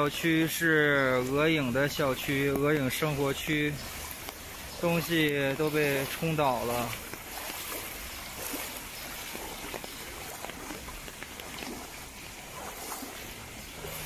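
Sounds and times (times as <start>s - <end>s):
footsteps splashing in shallow water: 0.0s - 14.0s
hiss of moving water: 0.0s - 14.0s.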